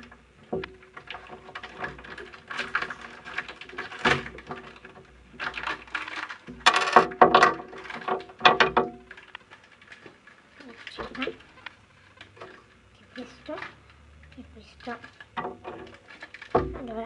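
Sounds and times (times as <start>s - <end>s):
plastic wrapper crackling: 0.0s - 17.0s.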